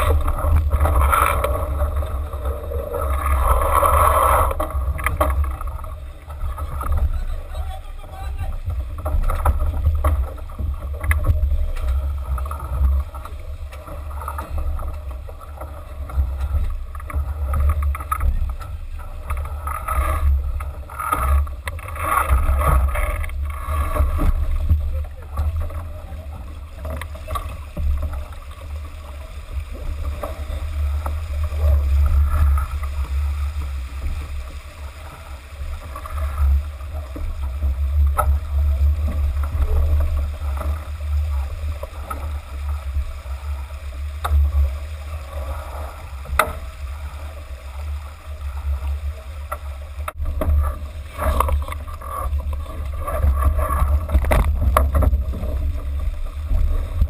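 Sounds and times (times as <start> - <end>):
water splashing along a hull: 0.0 - 57.0
wind rumbling on microphone: 0.0 - 57.0.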